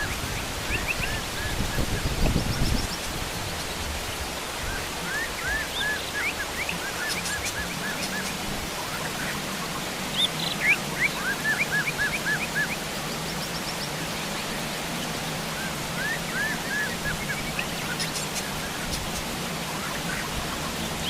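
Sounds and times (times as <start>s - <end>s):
heavy rain hiss: 0.0s - 21.0s
wild birds chirping: 0.0s - 21.0s.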